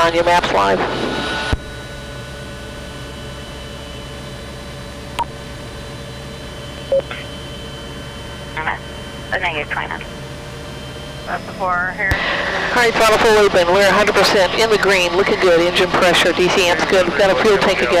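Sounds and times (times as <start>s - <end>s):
helicopter turbine engine idling: 0.0s - 18.0s.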